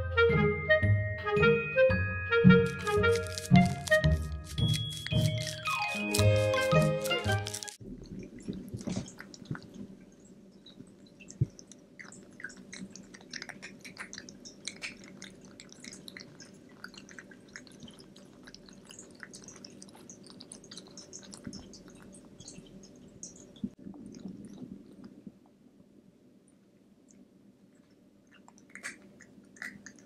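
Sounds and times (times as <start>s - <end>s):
kitten crunching dry food: 2.6s - 25.4s, 27.8s - 30.0s.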